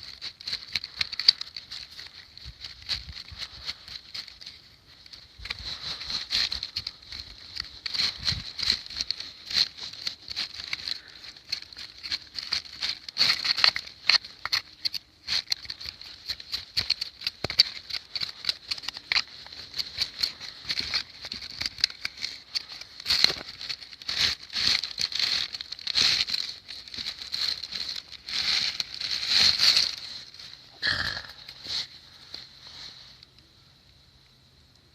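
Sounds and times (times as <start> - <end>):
scraping and scratching: 0.0 - 33.5.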